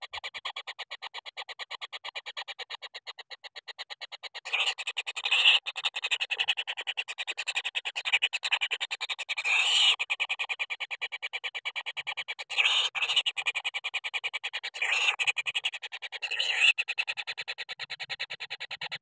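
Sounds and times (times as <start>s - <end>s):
rapid pulsing animal call: 0.3s - 10.1s, 12.5s - 13.7s, 14.7s - 19.0s.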